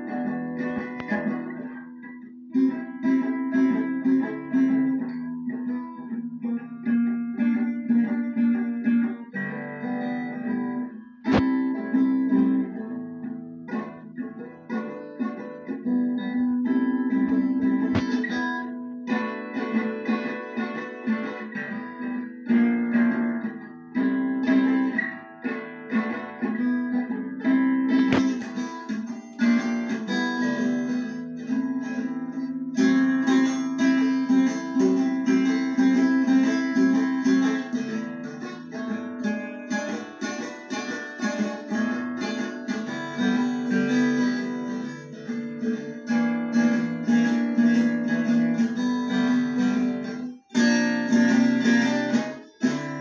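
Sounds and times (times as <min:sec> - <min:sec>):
acoustic guitar picked and strummed: 0:00.0 - 0:53.0.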